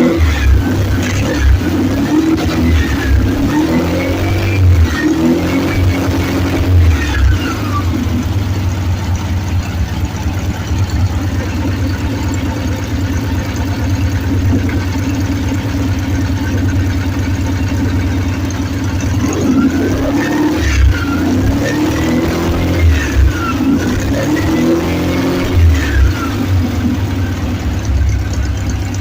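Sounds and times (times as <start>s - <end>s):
car engine running and revving: 0.0s - 29.0s.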